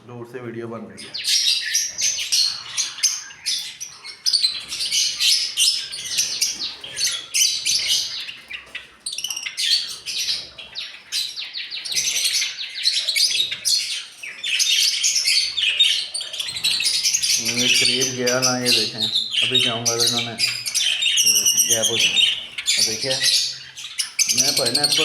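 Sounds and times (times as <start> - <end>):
flock of small birds chirping: 0.0 - 25.0.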